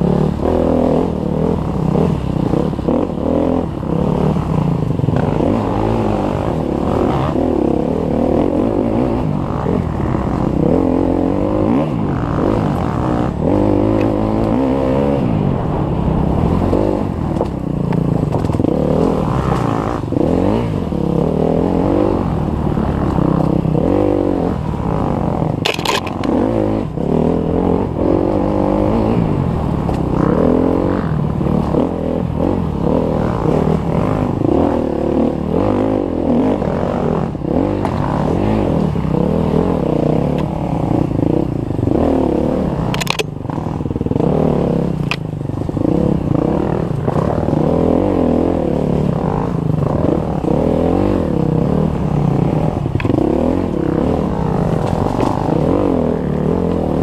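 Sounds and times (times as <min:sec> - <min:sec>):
dirt bike engine revving: 0:00.0 - 0:15.6, 0:18.5 - 0:57.0.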